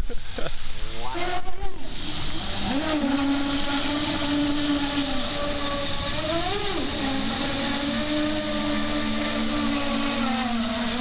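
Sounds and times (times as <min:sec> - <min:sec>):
electric motor whine: 0:00.8 - 0:11.0.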